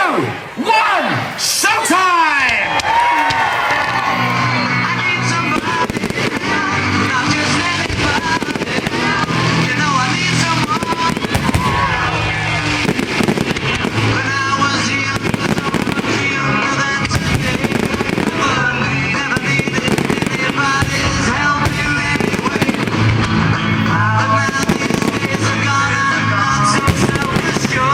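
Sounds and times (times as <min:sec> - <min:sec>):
loud music with singing: 0:00.0 - 0:27.9
fireworks bangs and crackles: 0:01.6 - 0:27.9.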